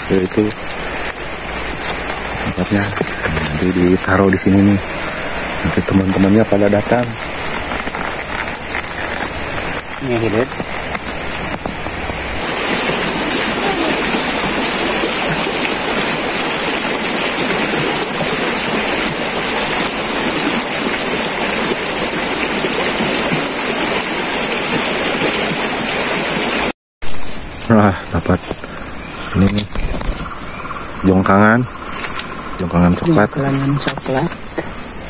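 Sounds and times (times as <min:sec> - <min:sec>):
stream running over rocks: 0:00.0 - 0:26.7, 0:27.8 - 0:35.0.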